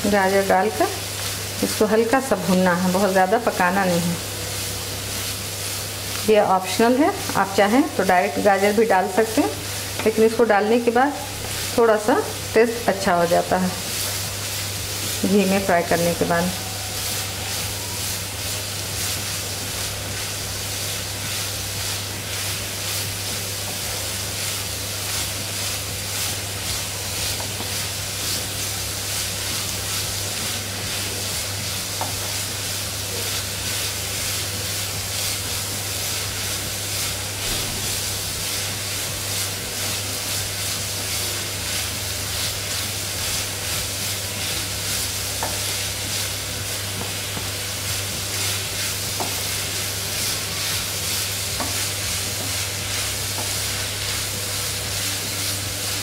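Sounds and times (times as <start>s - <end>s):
carrots sizzling in hot fat: 0.0s - 56.0s.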